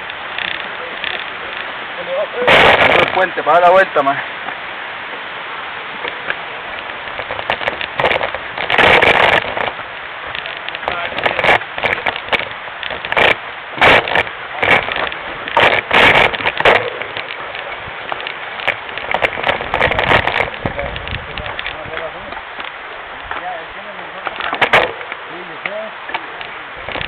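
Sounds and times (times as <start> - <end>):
bike rattling over bumps: 0.0 - 5.2, 5.8 - 27.0
tyre and wind rushing: 0.0 - 27.0.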